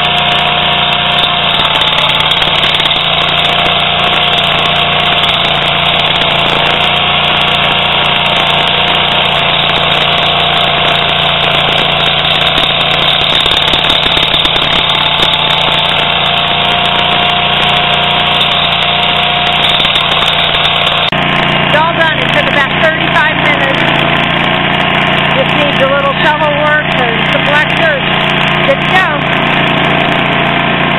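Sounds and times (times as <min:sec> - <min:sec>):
stump grinder engine running: 0:00.0 - 0:30.9.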